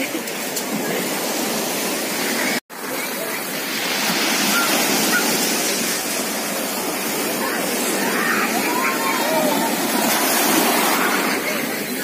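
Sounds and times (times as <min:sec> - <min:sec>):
surf washing on pebble beach: 0:00.0 - 0:12.0.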